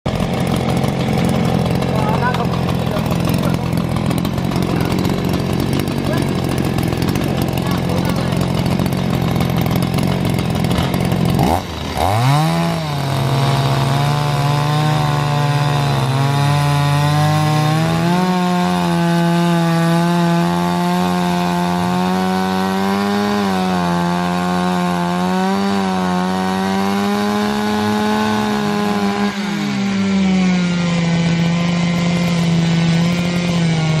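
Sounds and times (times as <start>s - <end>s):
chainsaw cutting wood: 0.1s - 34.0s.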